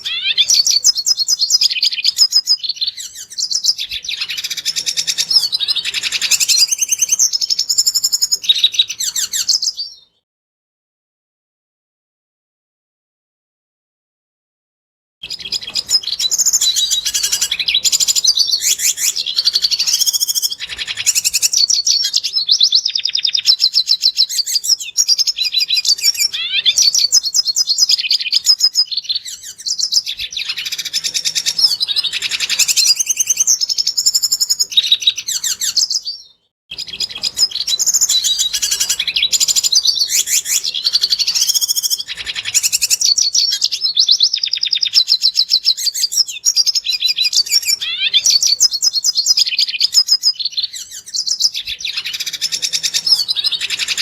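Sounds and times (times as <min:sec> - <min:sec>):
bird twittering song: 0:00.0 - 0:10.2, 0:15.2 - 0:54.0.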